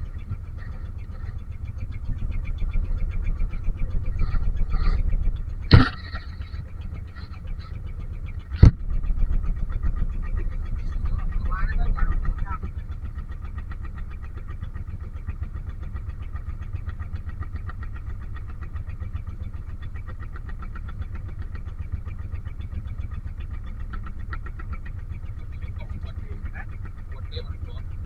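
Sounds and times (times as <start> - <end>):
boat engine pulsing: 0.0 - 28.0.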